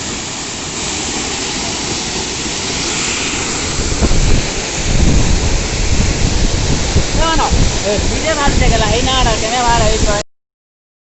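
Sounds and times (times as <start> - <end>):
waterfall rushing: 0.0 - 10.2
wind rumbling on microphone: 0.0 - 10.2.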